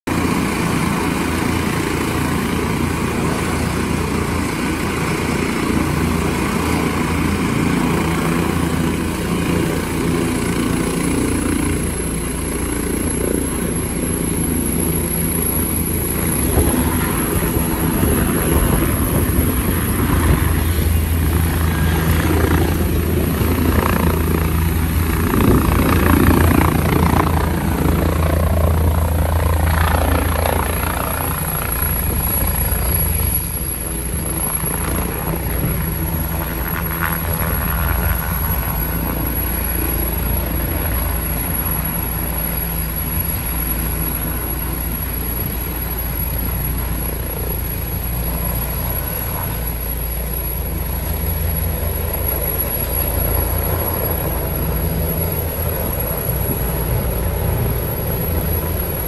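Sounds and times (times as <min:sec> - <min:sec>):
helicopter rotors and engines: 0:00.0 - 0:59.0.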